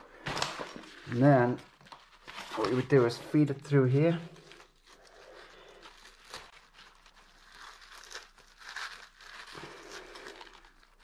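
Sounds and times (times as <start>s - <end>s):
fabric and plastic tube rustling: 0.0s - 11.0s.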